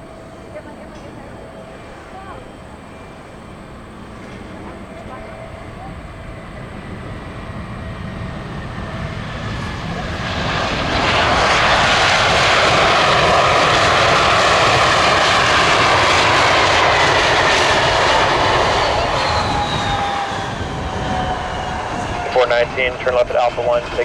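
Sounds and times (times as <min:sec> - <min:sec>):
jet engine roar: 0:00.0 - 0:24.0
jet engine whine falling: 0:00.0 - 0:24.0.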